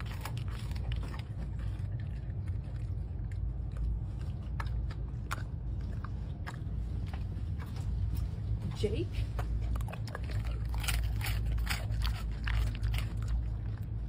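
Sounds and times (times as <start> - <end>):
dog chewing treat: 0.0 - 14.0.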